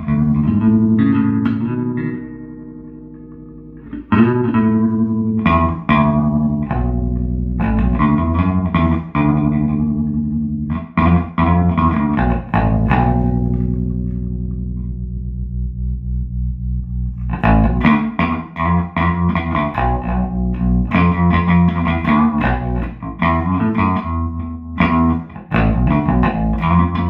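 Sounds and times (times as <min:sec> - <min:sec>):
electric bass guitar with vibrato: 0:00.0 - 0:27.0.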